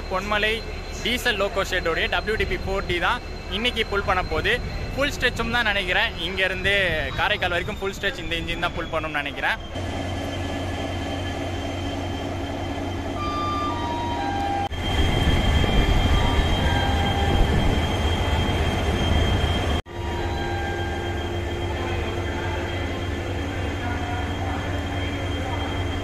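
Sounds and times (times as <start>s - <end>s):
diesel locomotive idling: 0.0s - 26.0s.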